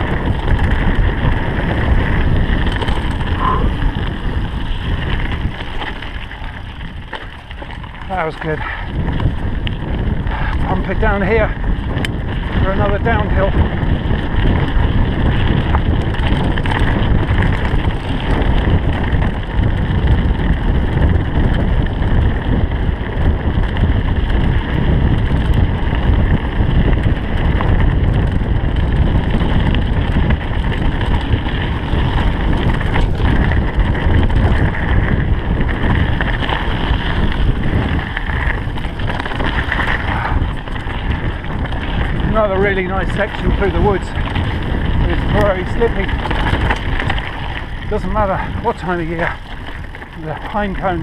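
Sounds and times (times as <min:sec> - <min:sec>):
bike rattling over stones: 0:00.0 - 0:51.0
bike tyres on gravel: 0:00.0 - 0:51.0
wind rushing over microphone: 0:00.0 - 0:51.0.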